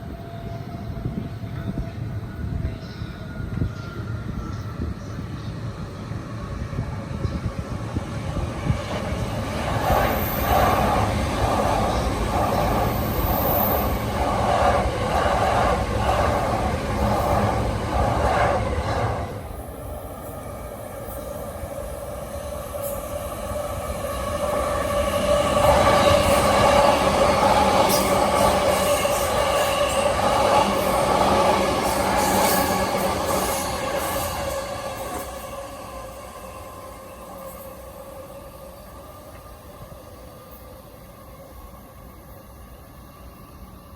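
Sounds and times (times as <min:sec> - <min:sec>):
electric train passing: 0:00.0 - 0:43.9.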